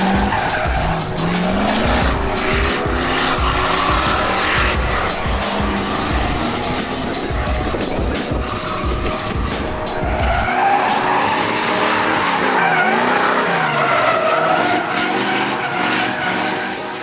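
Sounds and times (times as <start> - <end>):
truck engine revving: 0.0 - 17.0
tyres squealing: 0.0 - 17.0.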